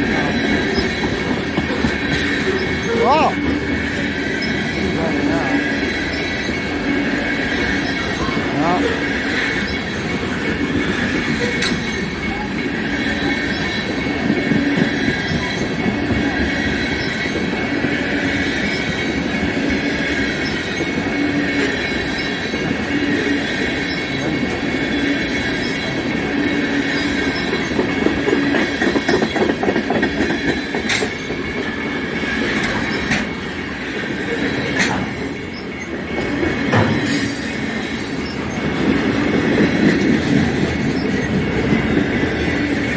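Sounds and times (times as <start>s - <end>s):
freight train cars rolling: 0.0s - 42.9s
wheels squealing on rails: 0.0s - 42.9s.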